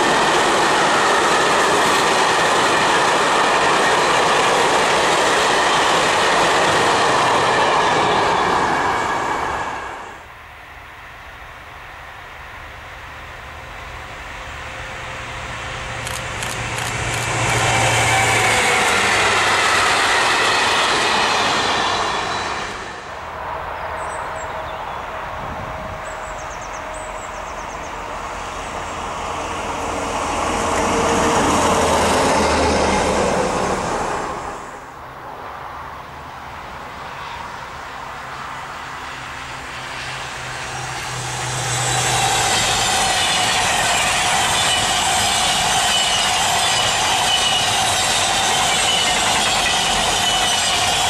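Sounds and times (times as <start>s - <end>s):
high-speed train approaching: 0.0s - 51.0s
trains passing at speed: 0.0s - 51.0s.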